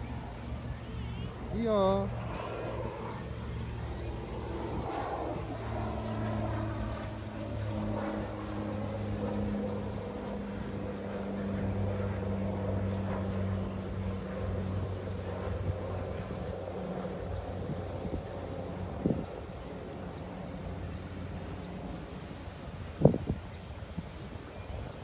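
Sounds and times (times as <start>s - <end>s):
distant engine droning: 0.0s - 25.0s.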